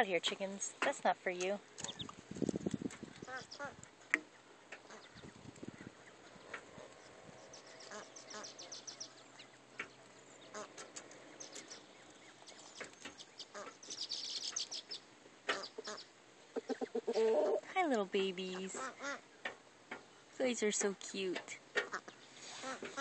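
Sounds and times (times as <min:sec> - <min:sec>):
ducklings peeping: 0:01.7 - 0:17.7, 0:18.6 - 0:20.3, 0:21.8 - 0:23.0.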